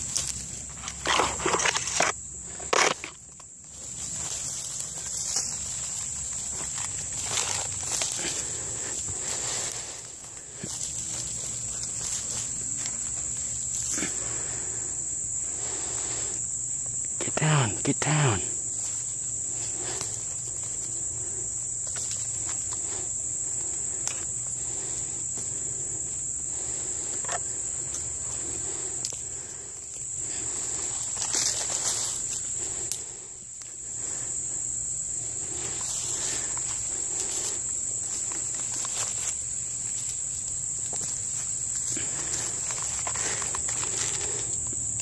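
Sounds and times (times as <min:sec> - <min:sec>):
rustling pine needles and leaves: 0:00.0 - 0:17.1, 0:18.5 - 0:45.0
insects trilling: 0:00.0 - 0:45.0.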